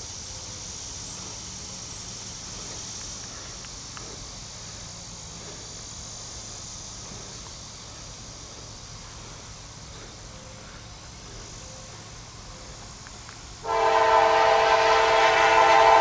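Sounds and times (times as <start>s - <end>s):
distant diesel locomotive hum: 0.0s - 16.0s
insects droning: 0.0s - 16.0s.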